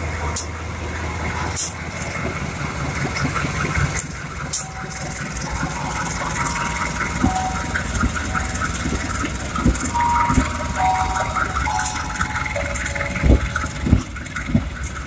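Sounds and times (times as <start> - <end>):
low diesel engine hum: 0.0 - 15.0
train coaches rolling past: 0.0 - 15.0.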